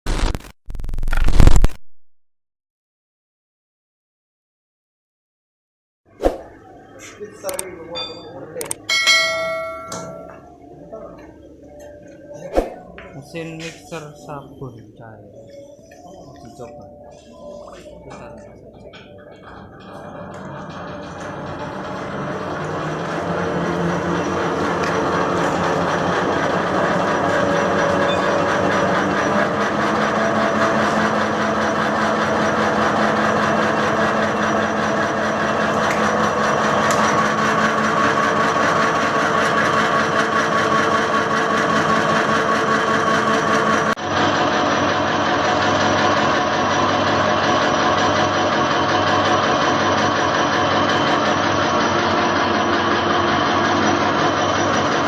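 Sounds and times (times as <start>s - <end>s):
mixer machine motor humming: 6.6s - 55.0s.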